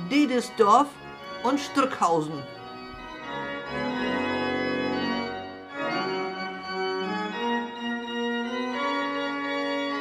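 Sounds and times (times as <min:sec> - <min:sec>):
pipe organ chords: 0:00.0 - 0:10.0.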